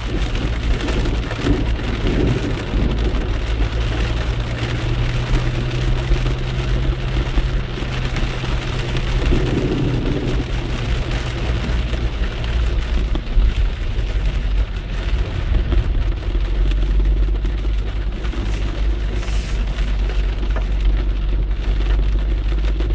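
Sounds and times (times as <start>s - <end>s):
car engine and tyres on wet road: 0.0s - 22.9s
rain on windscreen: 0.0s - 22.9s.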